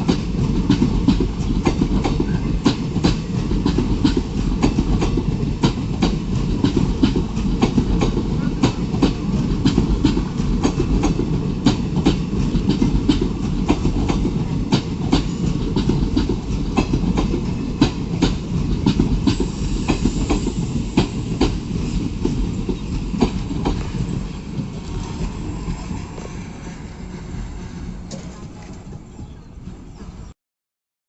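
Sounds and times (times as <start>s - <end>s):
train wheels clacking over rail joints: 0.0s - 30.2s
train rumble: 0.0s - 30.3s.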